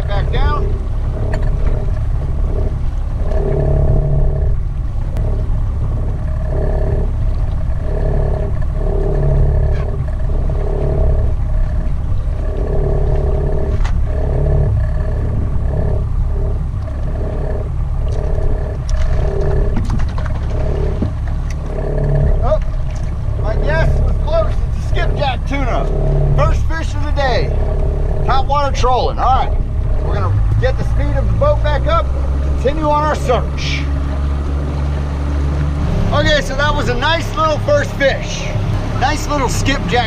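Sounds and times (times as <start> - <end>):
boat engine rumble: 0.0 - 40.0
wind: 0.0 - 40.0.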